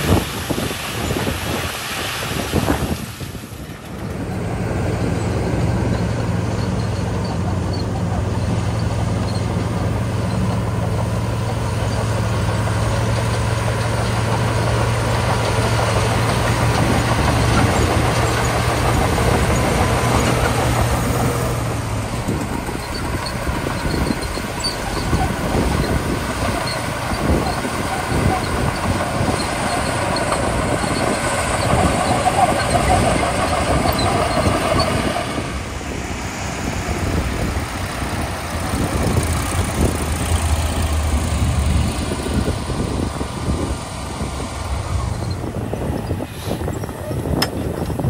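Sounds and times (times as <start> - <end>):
bulldozer diesel engine: 0.0 - 48.0.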